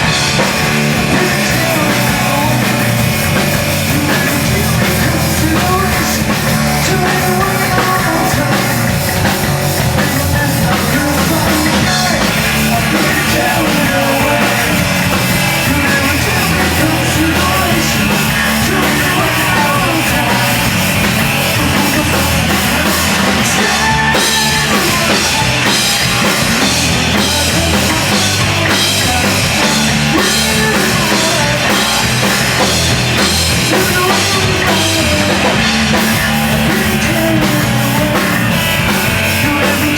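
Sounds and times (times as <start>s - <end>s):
distorted guitars: 0.0s - 39.9s
drum kit: 0.0s - 39.9s.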